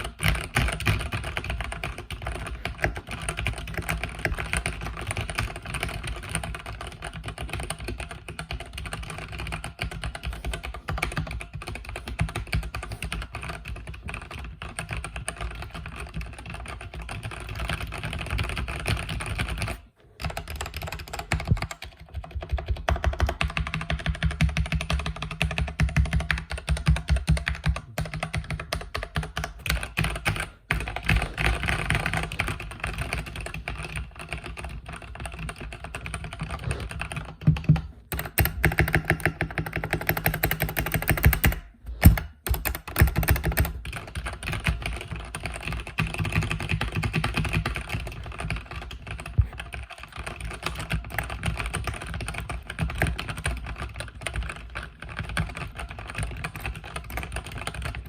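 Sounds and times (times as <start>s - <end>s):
fast typing on mechanical keyboard: 0.0s - 58.0s.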